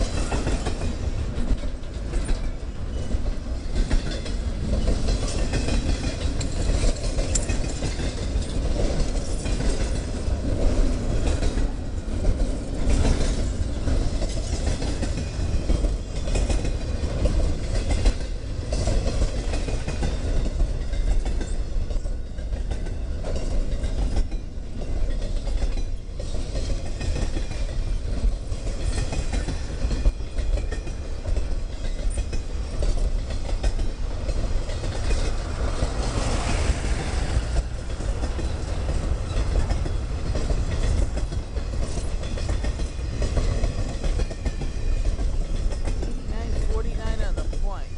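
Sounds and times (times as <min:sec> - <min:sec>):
freight train rumbling: 0:00.0 - 0:47.9
wheels clickety-clack on rails: 0:00.0 - 0:47.9.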